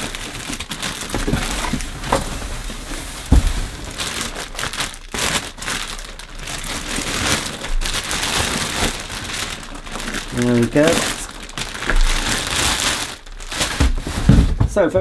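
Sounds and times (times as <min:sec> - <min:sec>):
plastic bag crinkling: 0:00.0 - 0:14.5.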